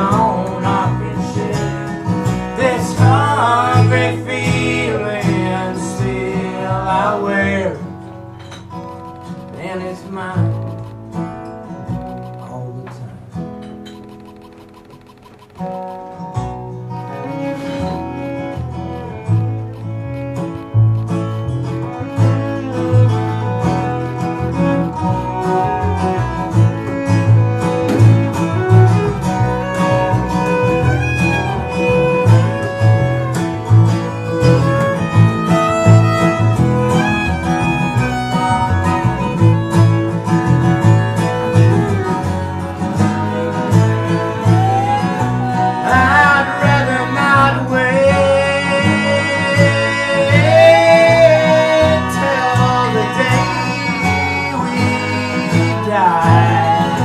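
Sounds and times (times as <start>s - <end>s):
plucked double bass: 0.0s - 14.1s, 15.5s - 57.0s
acoustic guitar: 0.0s - 57.0s
fiddle melody: 0.0s - 57.0s.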